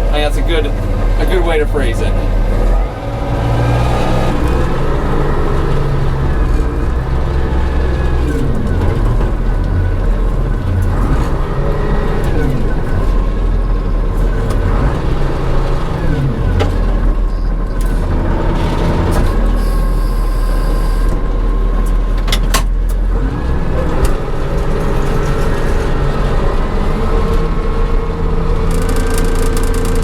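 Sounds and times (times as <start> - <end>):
wheel loader diesel engine: 0.0 - 30.0.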